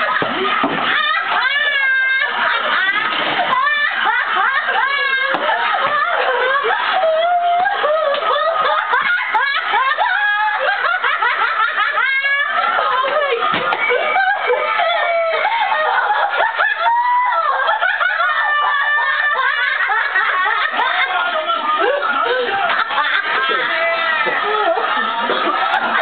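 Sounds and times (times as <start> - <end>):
people laughing shrilly: 0.0 - 26.0.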